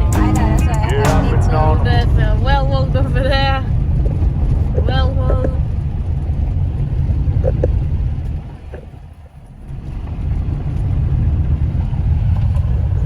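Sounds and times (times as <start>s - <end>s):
car driving on dirt road: 0.0s - 13.0s.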